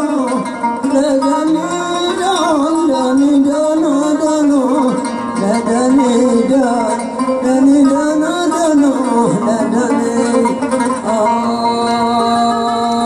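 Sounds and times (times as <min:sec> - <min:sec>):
oud melody: 0:00.0 - 0:13.0
plucked low notes: 0:00.0 - 0:13.0.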